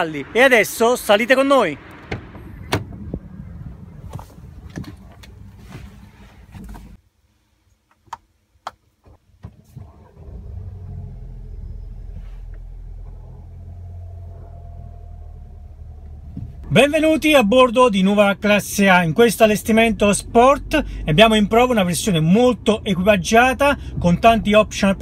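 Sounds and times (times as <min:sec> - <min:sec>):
car engine starting and idling: 0:00.0 - 0:07.0, 0:09.4 - 0:25.0
outdoor noise: 0:00.0 - 0:25.0.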